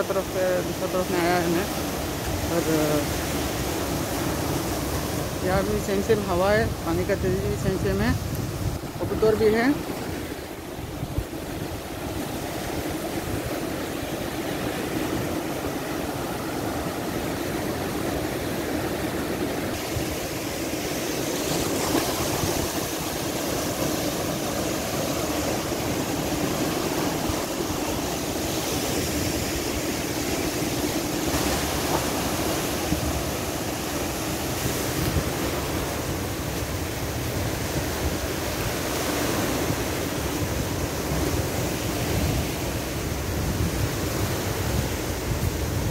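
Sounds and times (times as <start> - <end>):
waves breaking on rocky shore: 0.0 - 45.9
wind buffeting microphone: 3.6 - 15.7, 19.7 - 45.9.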